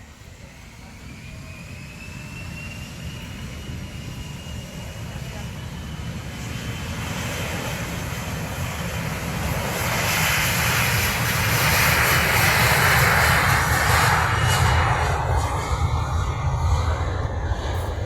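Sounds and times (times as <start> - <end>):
jet engines roaring at takeoff: 0.0 - 18.0.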